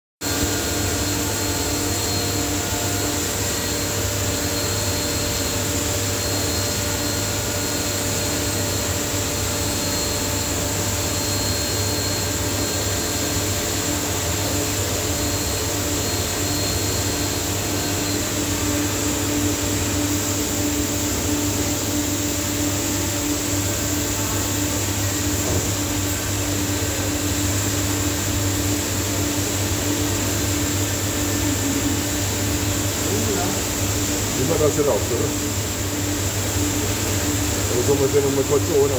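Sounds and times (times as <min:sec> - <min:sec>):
grinding machine hum: 0:00.2 - 0:38.9.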